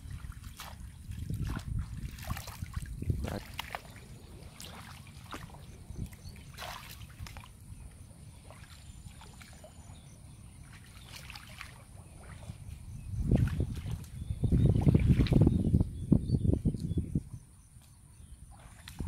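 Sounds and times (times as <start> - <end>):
water sloshing around wading feet: 0.0 - 15.6, 17.8 - 19.0.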